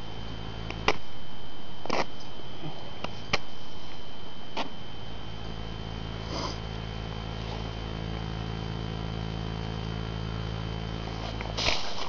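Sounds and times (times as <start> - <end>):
low tonal hum: 0.0 - 12.0
thin high whine: 0.0 - 12.0.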